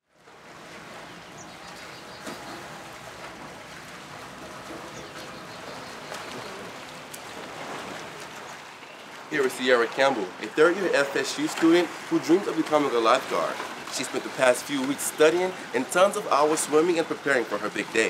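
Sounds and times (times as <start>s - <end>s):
splashing water from swimmers: 0.1s - 18.0s.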